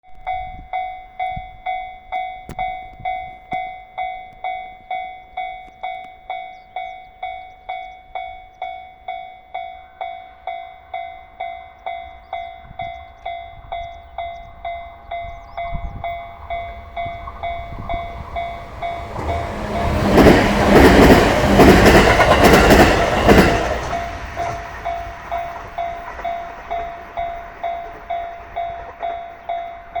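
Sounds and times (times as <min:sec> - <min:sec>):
level-crossing bell dinging: 0:00.3 - 0:30.0
train passing with wheel clatter: 0:05.4 - 0:30.0.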